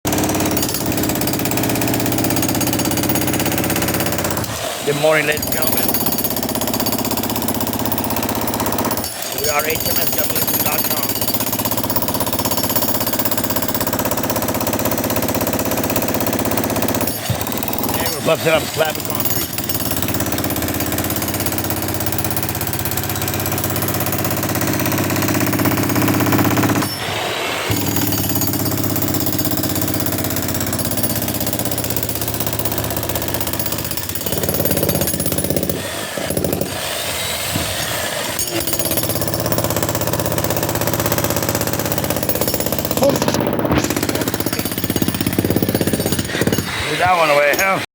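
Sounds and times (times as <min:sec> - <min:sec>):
jackhammer breaking concrete: 0:00.1 - 0:47.8.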